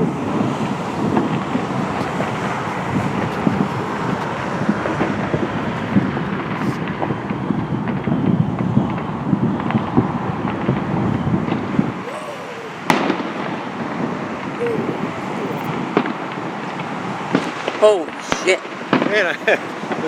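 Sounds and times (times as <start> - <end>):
distant fireworks rumble: 0.0 - 20.0.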